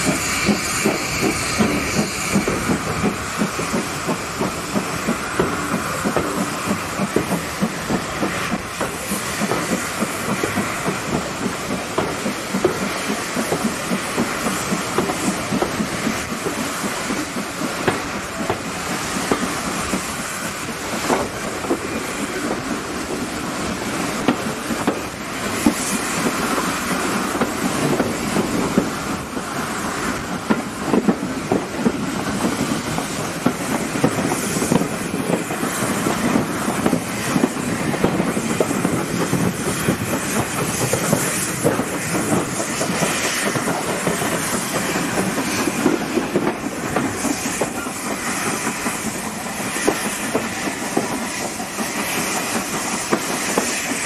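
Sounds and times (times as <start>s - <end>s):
steam locomotive chuffing and hissing: 0.0s - 54.0s.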